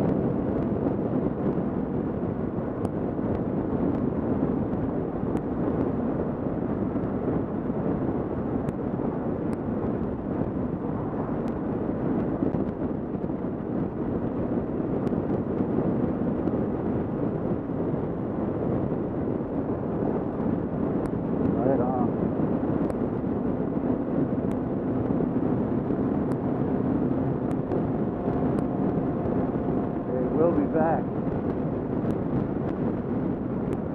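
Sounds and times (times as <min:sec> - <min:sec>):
motorcycle road noise: 0:00.0 - 0:33.9
wind rush: 0:00.0 - 0:33.9.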